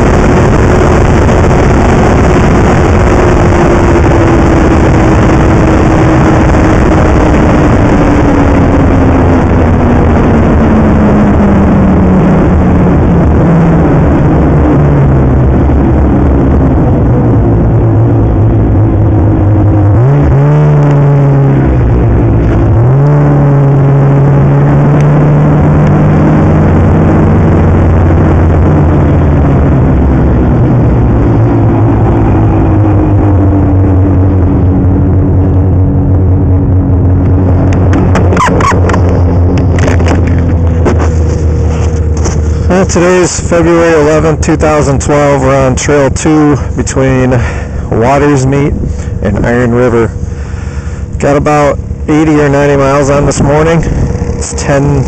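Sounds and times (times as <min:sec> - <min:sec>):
snowmobile engine running: 0:00.0 - 0:55.0.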